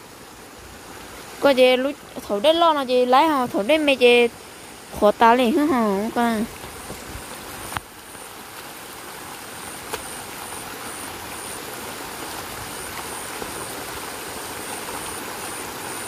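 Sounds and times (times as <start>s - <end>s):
water running through a ditch: 0.0s - 16.0s.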